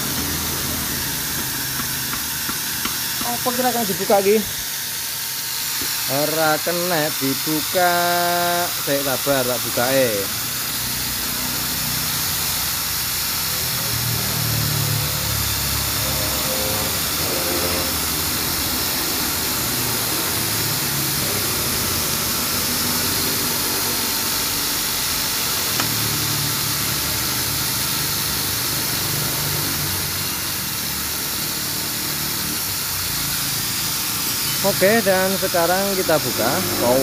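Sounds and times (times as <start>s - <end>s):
machine hiss and hum: 0.0s - 37.0s.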